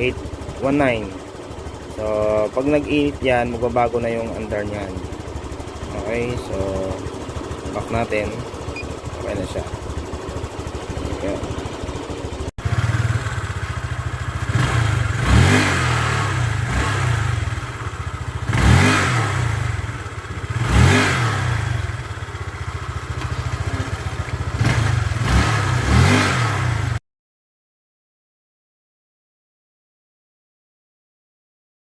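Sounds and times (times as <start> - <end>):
scooter engine idling and revving: 0.0 - 27.0.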